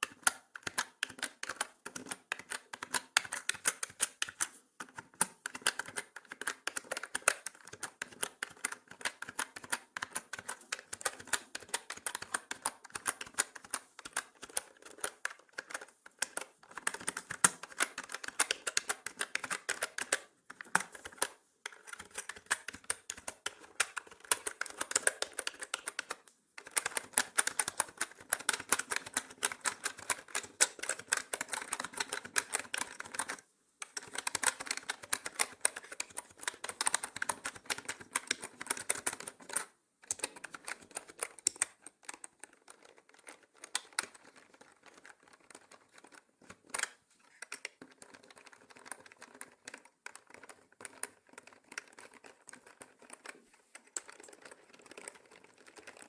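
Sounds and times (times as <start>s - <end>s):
mechanical keyboard clicks: 0.0s - 56.0s.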